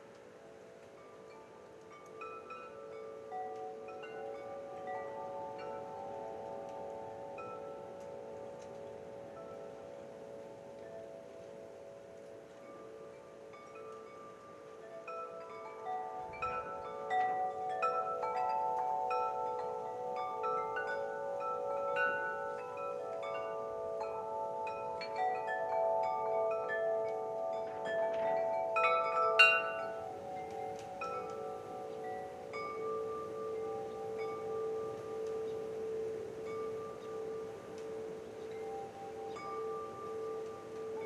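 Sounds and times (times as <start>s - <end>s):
wind chimes ringing: 0.0s - 41.0s.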